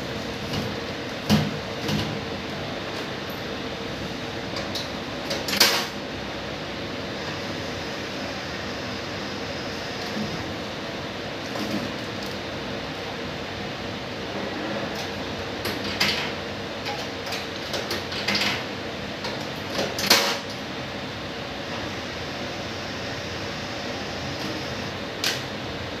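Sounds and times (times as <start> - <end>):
steady hum: 0.0 - 17.5, 20.4 - 26.0.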